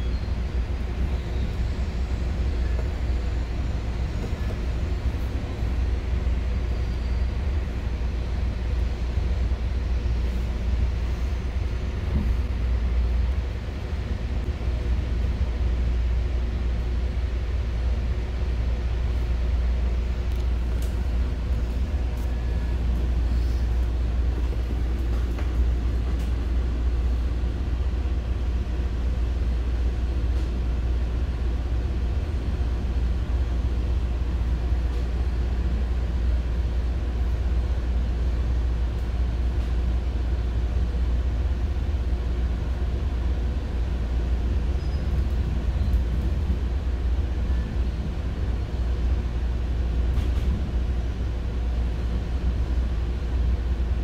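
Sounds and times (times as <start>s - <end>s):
train rumbling along track: 0.0s - 54.0s.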